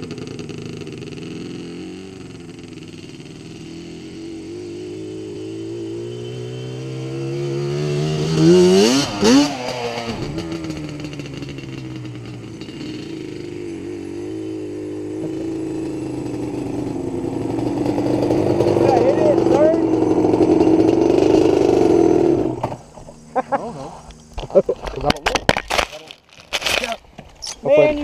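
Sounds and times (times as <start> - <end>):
quad engine idling and revving: 0.0 - 24.5
approaching quad engine: 0.0 - 25.3.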